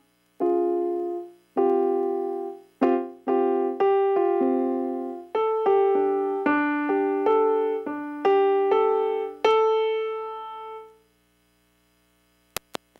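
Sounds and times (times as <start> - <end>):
piano chords: 0.4 - 11.0.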